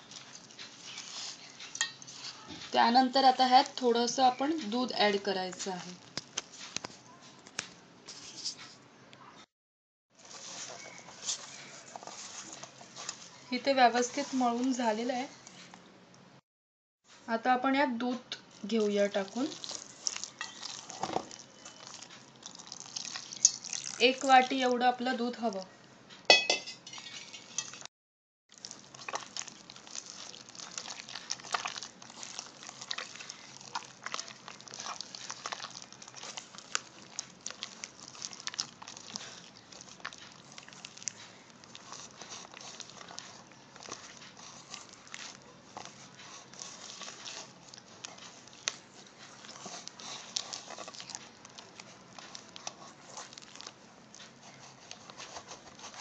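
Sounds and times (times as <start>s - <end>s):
wet dough squelching in bowl: 0.0s - 8.5s, 10.2s - 15.6s, 18.1s - 25.7s, 28.5s - 56.0s.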